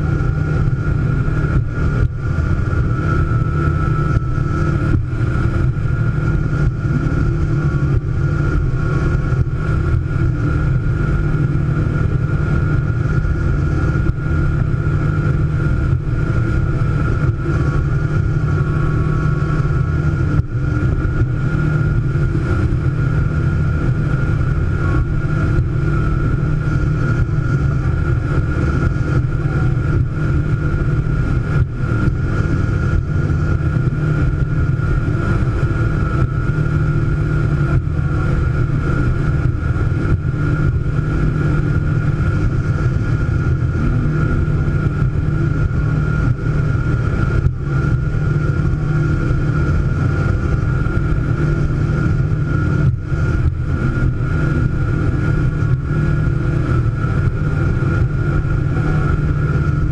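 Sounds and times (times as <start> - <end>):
speedboat engine droning: 0.0 - 59.9.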